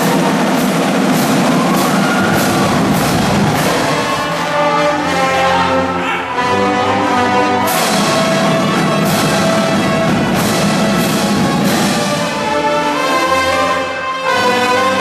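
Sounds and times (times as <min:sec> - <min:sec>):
brass chords: 0:00.0 - 0:15.0
snare drums: 0:00.0 - 0:15.0.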